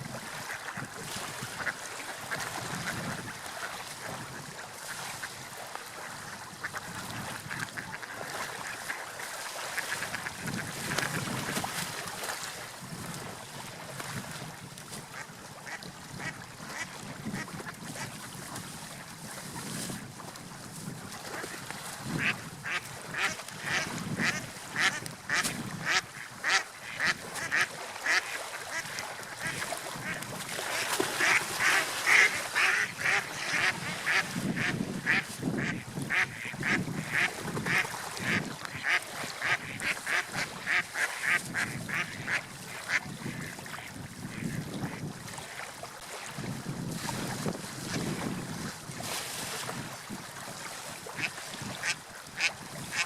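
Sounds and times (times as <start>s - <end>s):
water: 0.0s - 53.0s
wind: 0.0s - 53.0s.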